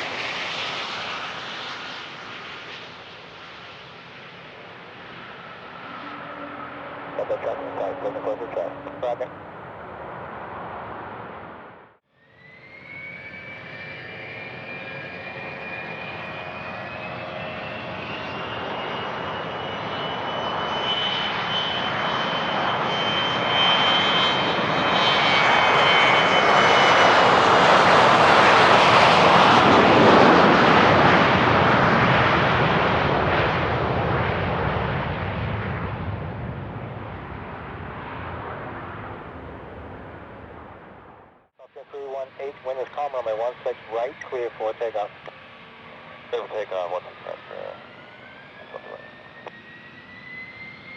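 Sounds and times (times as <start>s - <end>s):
jet engine roar: 0.0s - 50.9s
jet engine whine: 0.0s - 50.9s.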